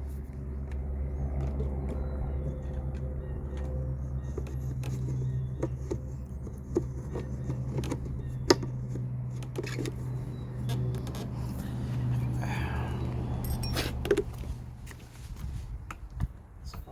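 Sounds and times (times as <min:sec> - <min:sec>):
lawn mower engine running: 0:00.0 - 0:15.4.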